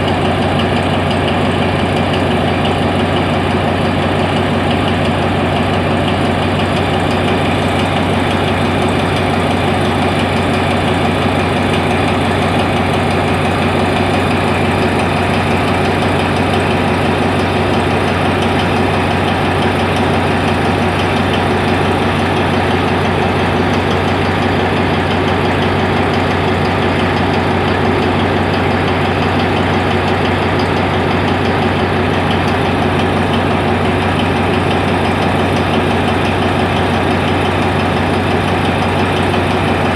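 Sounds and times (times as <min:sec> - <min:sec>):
locomotive engine idling: 0:00.0 - 0:39.9.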